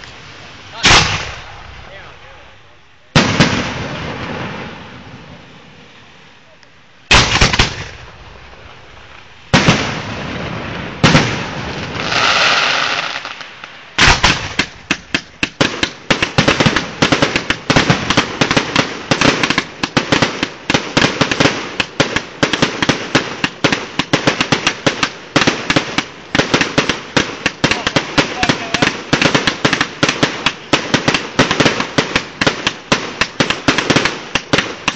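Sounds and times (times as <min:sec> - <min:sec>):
fireworks bangs: 0:00.0 - 0:05.9, 0:07.1 - 0:34.9
fireworks barrage: 0:00.0 - 0:34.9
fireworks crackling hiss: 0:00.0 - 0:34.9.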